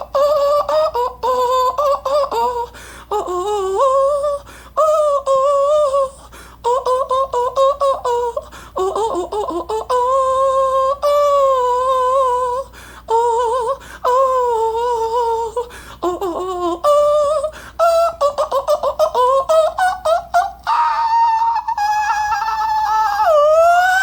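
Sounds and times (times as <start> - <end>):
person humming: 0.0 - 24.0.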